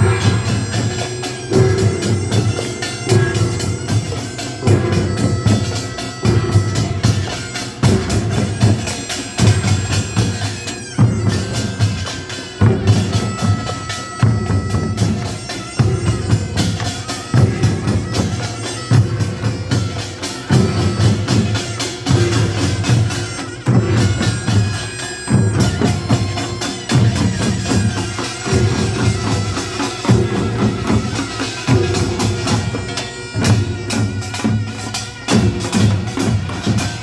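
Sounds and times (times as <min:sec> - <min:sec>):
drums beating: 0:00.0 - 0:37.0
hand gongs clattering: 0:00.0 - 0:37.0.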